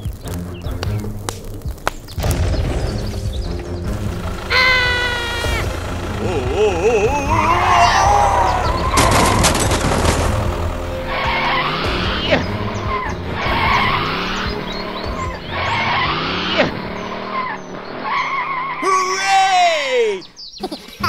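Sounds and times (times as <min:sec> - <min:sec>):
engine straining and revving: 0:00.0 - 0:18.8
background music: 0:00.0 - 0:21.0
tyres skidding: 0:00.0 - 0:21.0.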